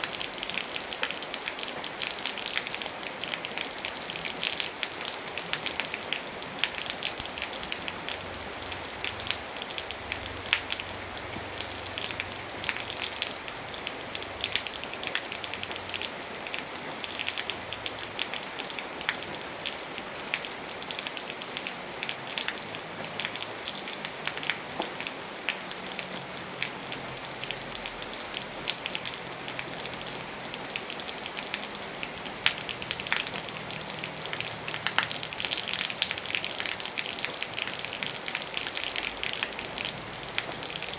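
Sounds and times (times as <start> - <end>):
rain drops ticking on surface: 0.0 - 40.9
rain hiss: 0.0 - 40.9.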